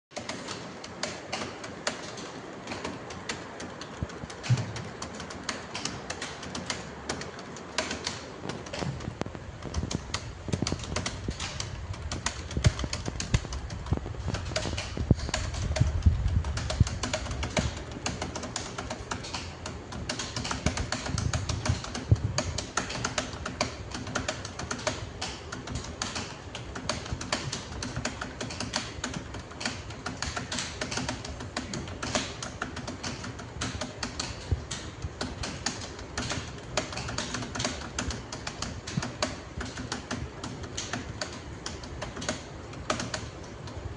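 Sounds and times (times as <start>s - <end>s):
fast typing on keyboard: 0.1s - 43.9s.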